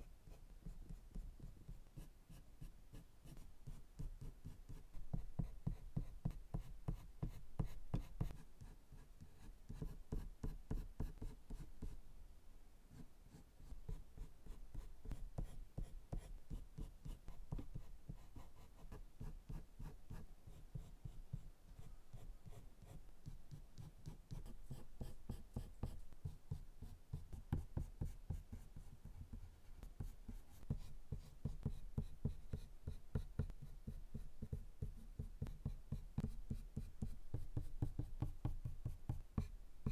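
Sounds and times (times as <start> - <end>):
pencil scratching on paper: 0.3 - 12.0, 12.9 - 39.9.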